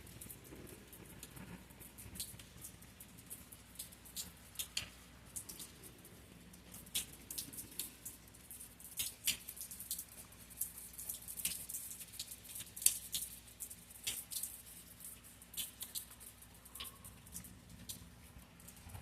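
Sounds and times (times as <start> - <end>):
faint steady hum: 0.0 - 19.0
raindrops pattering: 0.0 - 19.0.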